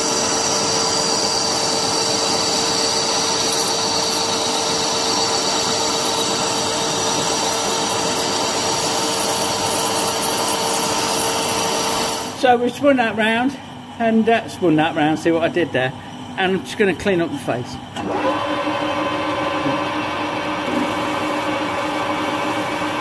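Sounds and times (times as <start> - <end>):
metal lathe cutting: 0.0 - 23.0.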